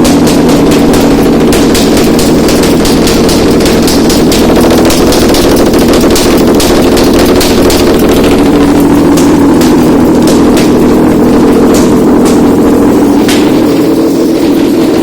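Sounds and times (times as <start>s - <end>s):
engine droning: 0.0s - 15.0s
rapid sharp clicking clatter: 0.0s - 15.0s.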